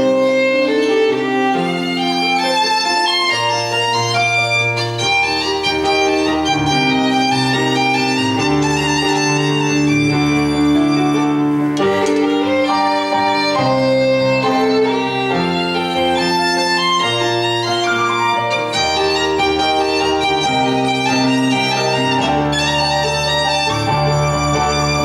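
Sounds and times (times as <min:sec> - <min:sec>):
keyboard accompaniment: 0:00.0 - 0:25.0
violin melody: 0:00.0 - 0:25.0.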